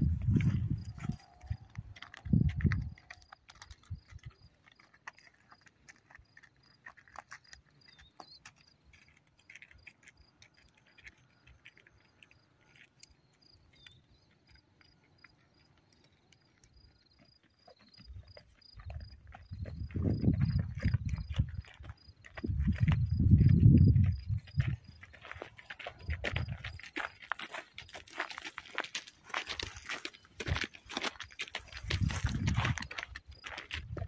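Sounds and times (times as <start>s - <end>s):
hooves and footsteps on stony ground: 0.0s - 34.0s.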